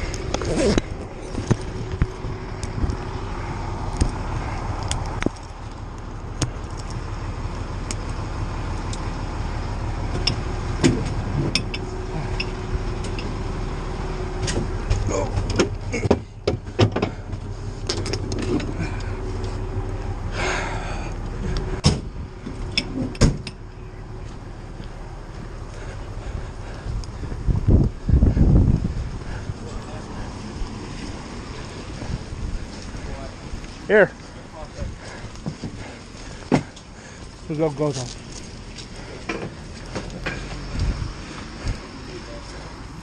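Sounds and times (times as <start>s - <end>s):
fire truck engine running: 0.0s - 43.0s.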